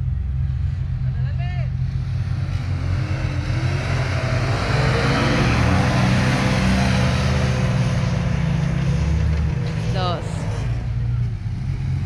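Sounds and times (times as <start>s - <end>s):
road and wind noise: 0.0s - 12.0s
car engine speeding up: 1.8s - 12.0s.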